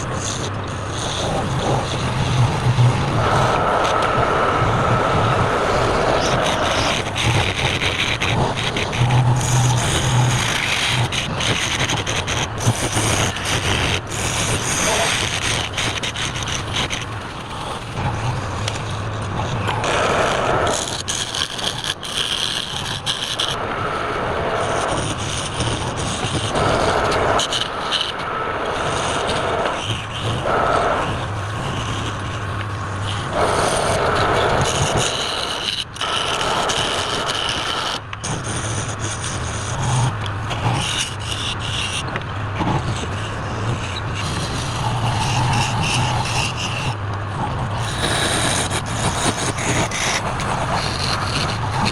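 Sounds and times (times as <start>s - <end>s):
lathe motor hum: 0.0s - 51.9s
turning tool scraping wood: 0.0s - 51.9s.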